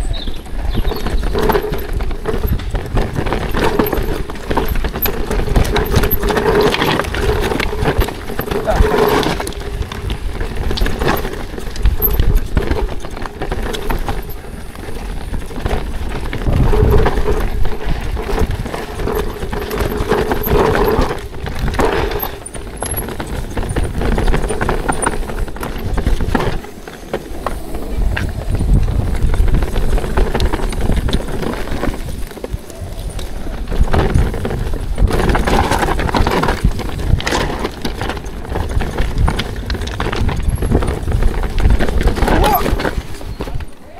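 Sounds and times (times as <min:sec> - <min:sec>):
bike clattering over rocks: 0:00.0 - 0:43.9.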